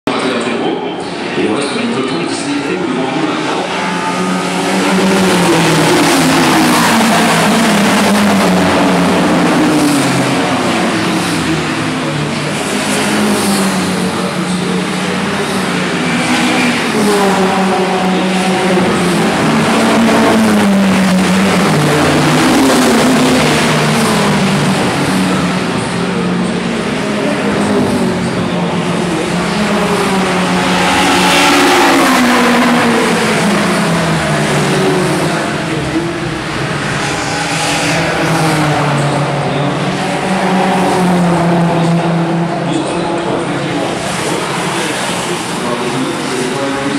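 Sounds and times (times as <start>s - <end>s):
racing car engines revving: 0.1s - 46.9s.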